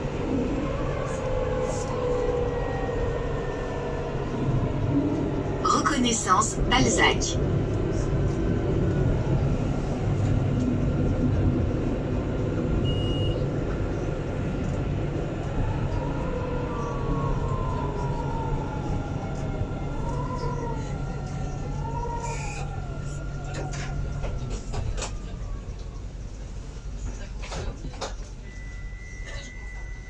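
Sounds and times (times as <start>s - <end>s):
tram wheels rumbling: 0.0s - 30.0s
tram whine: 0.0s - 30.0s.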